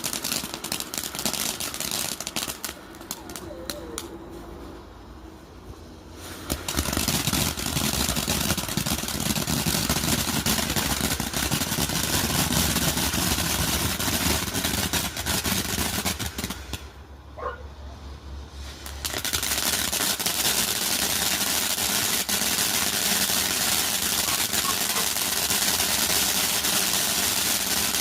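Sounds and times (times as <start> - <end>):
firework fountain hissing and crackling: 0.0 - 17.2, 18.1 - 28.0.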